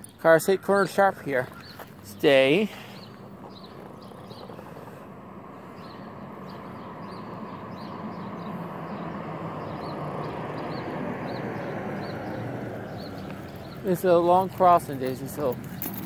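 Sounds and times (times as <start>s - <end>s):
vehicle engine and tyre noise: 0.0s - 16.0s.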